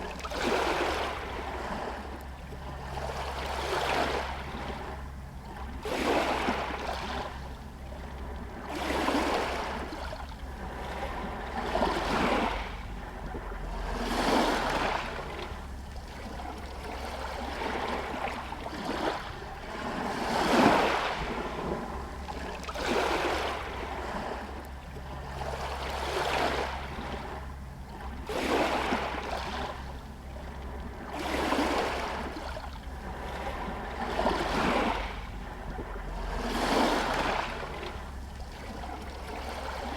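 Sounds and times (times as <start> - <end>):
small waves lapping on stones: 0.0 - 39.9.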